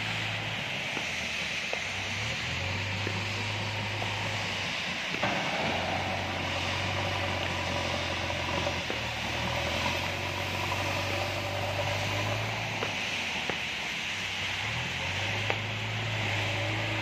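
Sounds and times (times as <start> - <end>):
diesel engine under load: 0.0 - 17.0
steady hiss: 0.0 - 17.0.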